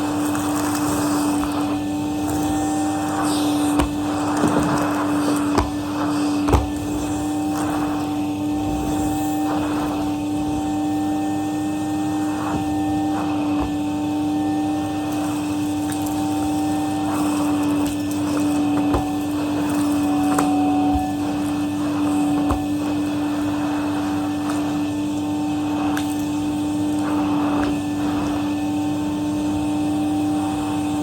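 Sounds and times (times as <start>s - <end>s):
vacuum cleaner humming: 0.0s - 31.0s.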